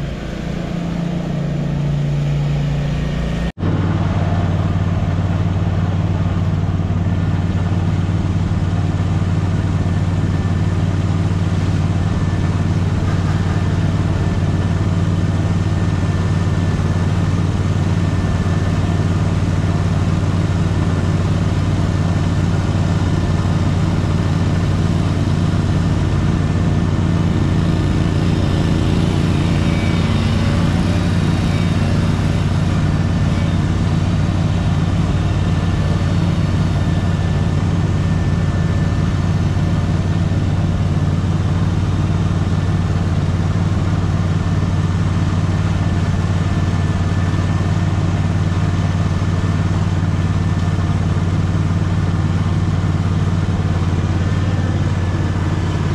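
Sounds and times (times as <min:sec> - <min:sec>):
small petrol engine running: 0:00.0 - 0:55.9.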